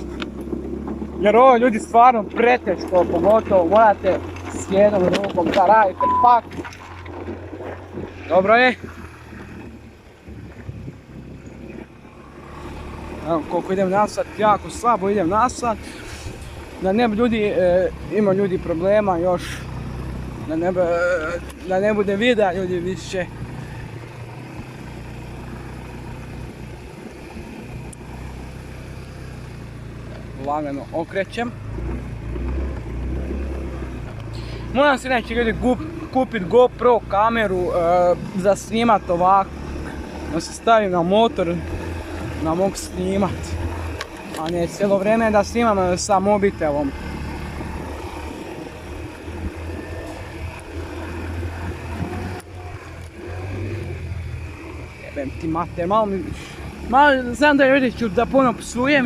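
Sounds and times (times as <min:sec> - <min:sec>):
motorcycle engine running slowly: 0:00.0 - 0:59.0.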